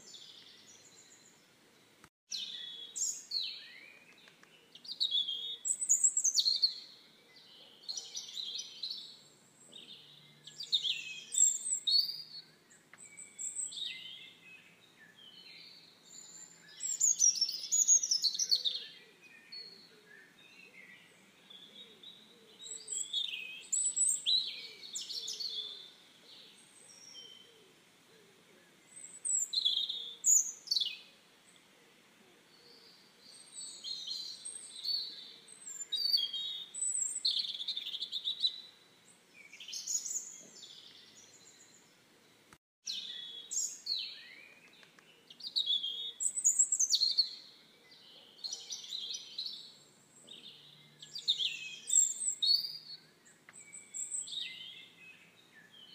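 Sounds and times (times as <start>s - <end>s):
songbird chirps and trills: 0.0s - 55.9s.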